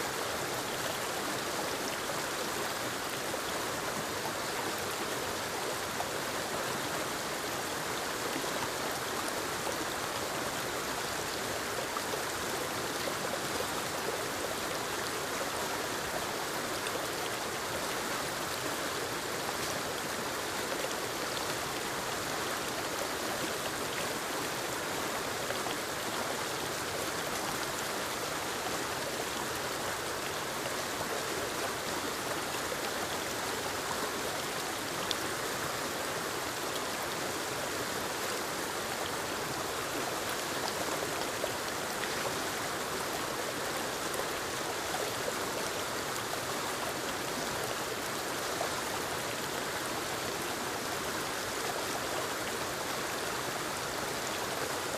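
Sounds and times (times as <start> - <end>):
waterfall and creek water rushing: 0.0 - 54.9.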